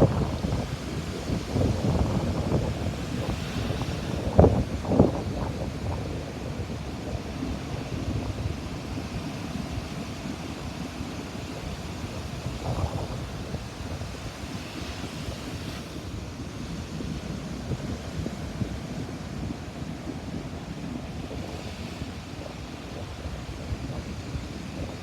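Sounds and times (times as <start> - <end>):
ocean surf breaking on beach: 0.0 - 25.0
wind buffeting microphone: 0.0 - 25.0.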